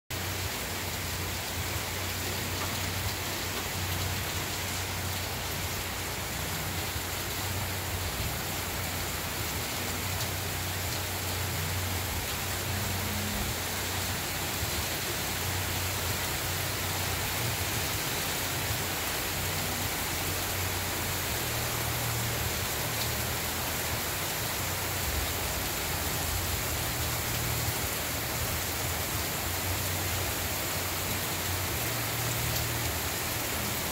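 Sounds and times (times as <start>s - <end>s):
heavy rain on pavement: 0.1s - 33.9s.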